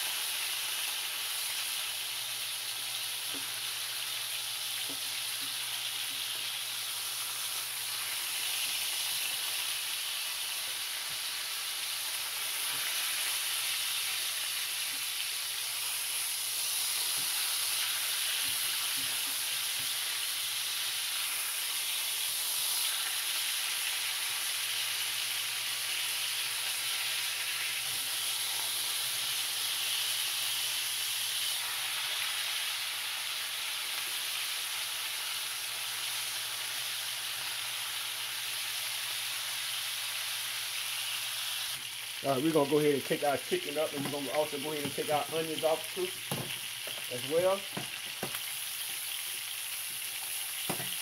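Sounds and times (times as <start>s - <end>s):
chicken sizzling in oil: 0.0s - 51.0s.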